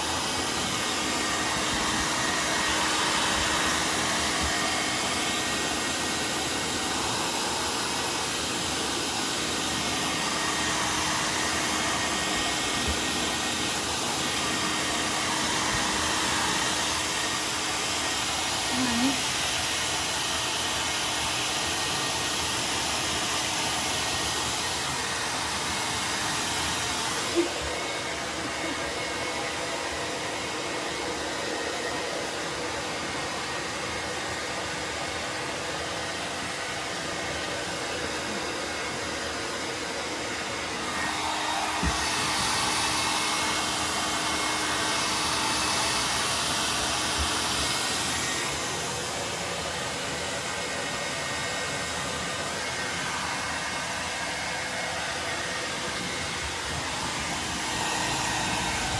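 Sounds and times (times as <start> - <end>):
hair dryer blowing: 0.0 - 58.9.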